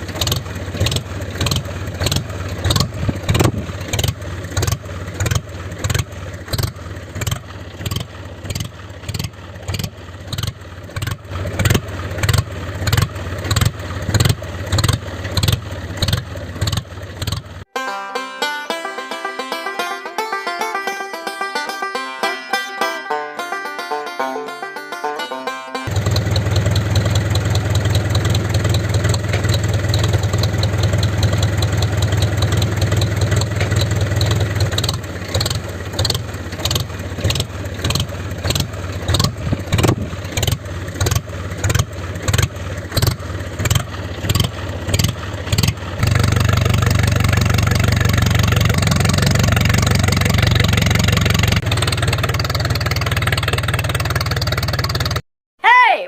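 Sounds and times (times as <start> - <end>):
mini tractor motor humming: 0.0 - 17.7, 25.8 - 55.2.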